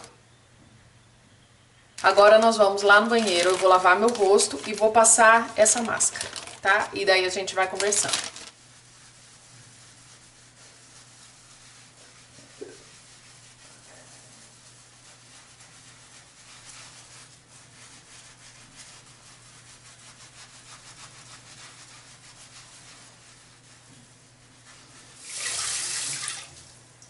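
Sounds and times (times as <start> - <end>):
pad scrubbing skin: 2.0 - 26.1.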